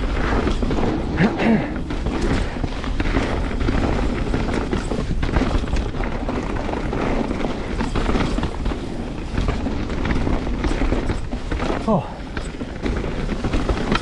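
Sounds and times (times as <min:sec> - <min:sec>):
bike tyre noise on dirt: 0:00.0 - 0:14.0.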